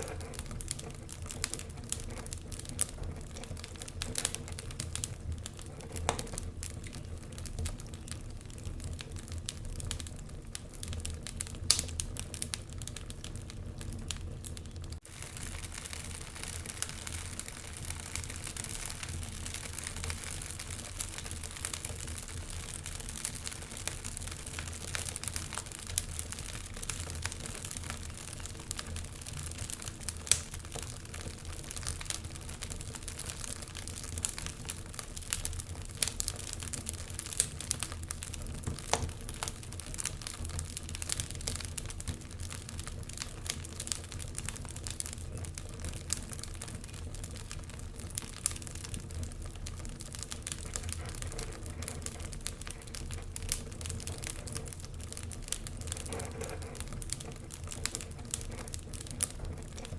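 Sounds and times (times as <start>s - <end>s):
fire crackling in a fireplace: 0.0s - 59.9s.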